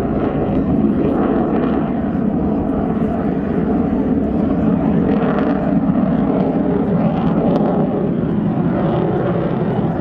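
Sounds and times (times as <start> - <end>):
jet flying overhead: 0.0 - 10.0.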